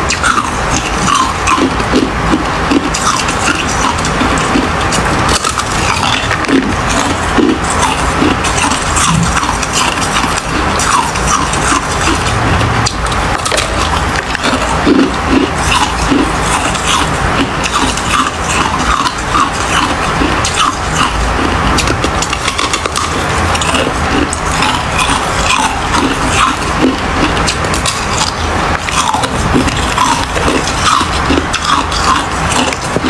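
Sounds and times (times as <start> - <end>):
ice being chewed: 0.0 - 33.0.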